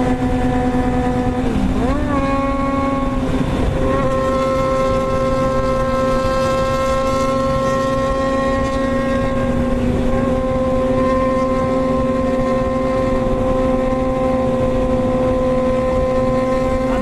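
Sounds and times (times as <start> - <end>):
motorcycle engine at high speed: 0.0 - 17.0
wind rumble: 0.0 - 17.0.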